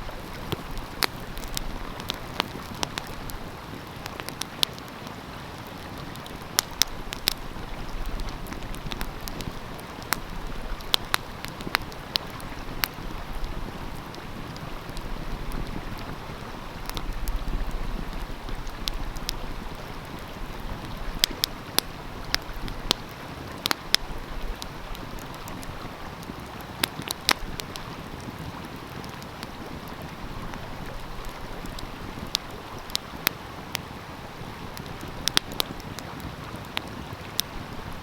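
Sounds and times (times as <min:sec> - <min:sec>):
stream rushing: 0:00.0 - 0:38.0
wood fire crackling: 0:00.0 - 0:38.0.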